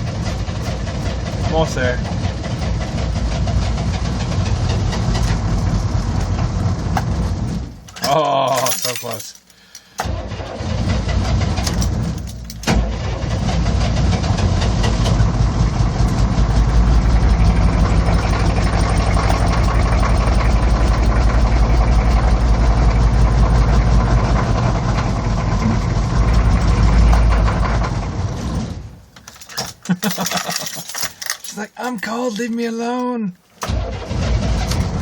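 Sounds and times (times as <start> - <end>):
diesel engine running: 0.0 - 8.3, 9.4 - 32.5, 33.6 - 35.0
diesel engine cranking: 0.0 - 35.0.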